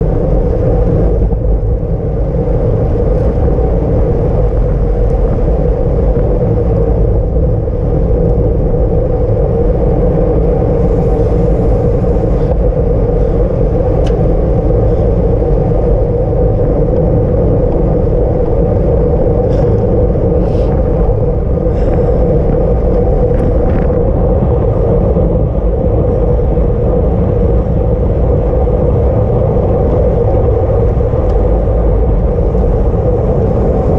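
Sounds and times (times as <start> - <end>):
road rumble: 0.0 - 33.9
wind rush on microphone: 0.0 - 33.9.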